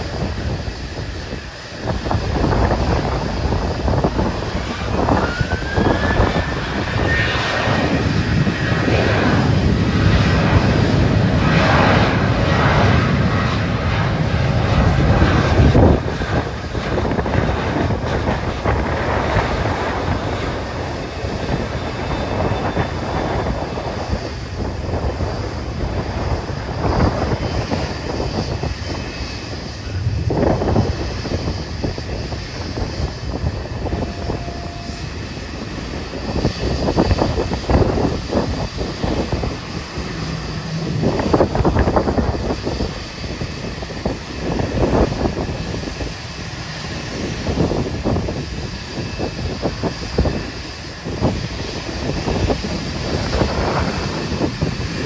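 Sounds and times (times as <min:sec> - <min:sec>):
jet engines roaring: 0:00.0 - 0:55.0
wind buffeting microphone: 0:00.0 - 0:55.0.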